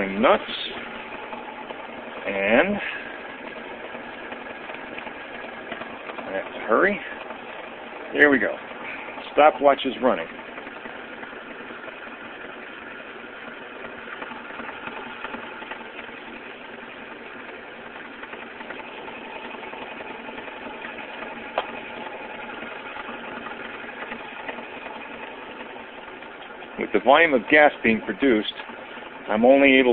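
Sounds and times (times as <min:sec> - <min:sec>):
electric vacuum pump running: 0:00.0 - 0:29.9.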